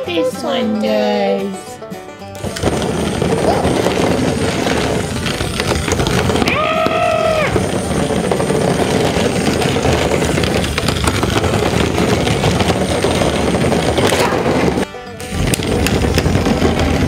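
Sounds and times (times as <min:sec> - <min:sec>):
toy motor whirring: 0:02.3 - 0:17.0.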